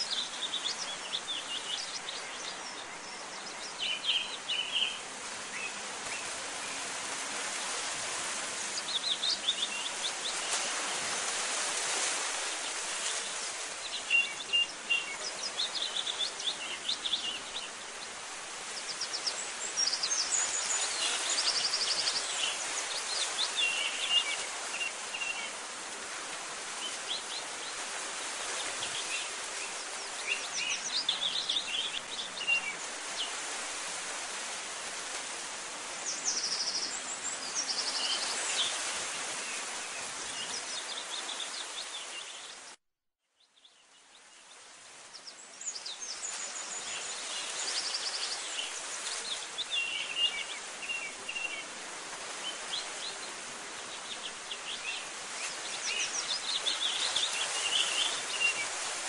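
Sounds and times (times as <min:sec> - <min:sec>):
outdoor background hiss: 0:00.0 - 0:59.0.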